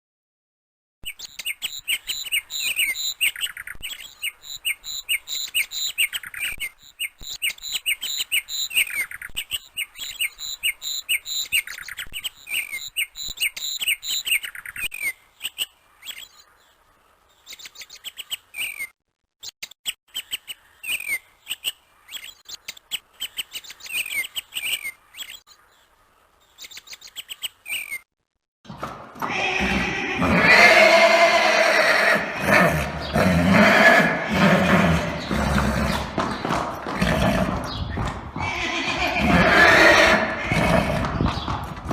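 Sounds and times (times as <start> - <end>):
small birds chirping: 1.0 - 28.1, 29.5 - 41.9.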